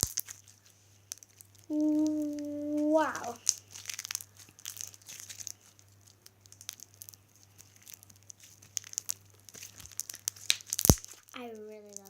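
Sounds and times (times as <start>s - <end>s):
slime crackling and clicking: 0.0s - 12.0s
slime popping: 0.0s - 12.0s.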